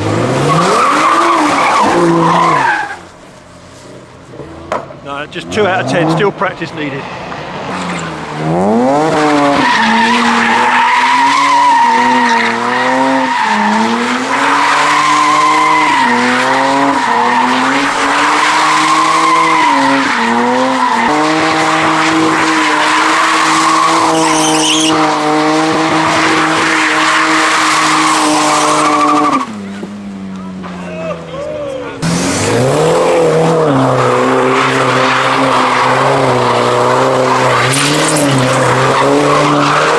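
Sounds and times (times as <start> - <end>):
car engine at high revs: 0.0 - 3.2, 3.8 - 39.9
tyres squealing: 0.0 - 6.9, 7.7 - 39.9.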